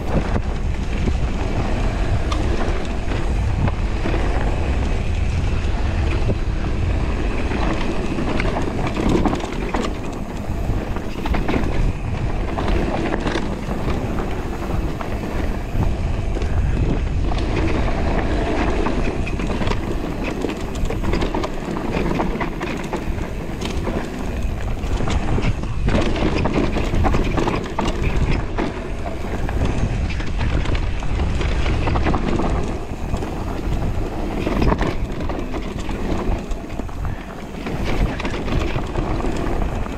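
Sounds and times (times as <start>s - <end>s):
bike clattering over bumps: 0.0s - 39.9s
bike tyres rolling on dirt: 0.0s - 39.9s.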